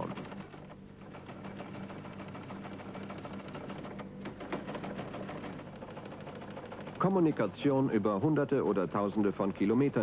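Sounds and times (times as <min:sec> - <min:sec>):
teleprinter clattering: 0:00.0 - 0:08.1.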